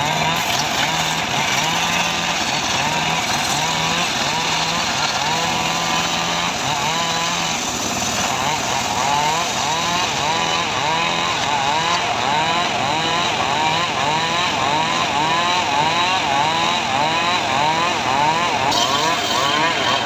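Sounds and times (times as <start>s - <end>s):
engine-driven saw cutting logs: 0.0s - 20.0s.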